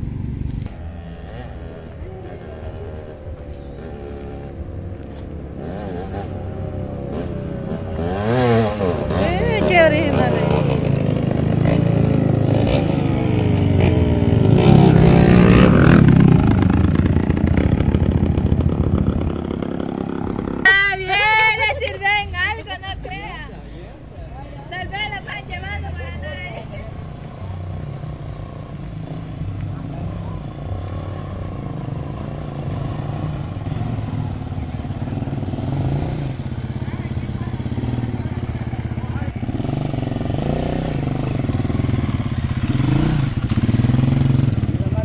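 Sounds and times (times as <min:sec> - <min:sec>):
dirt bike engines revving: 0:00.0 - 0:45.0.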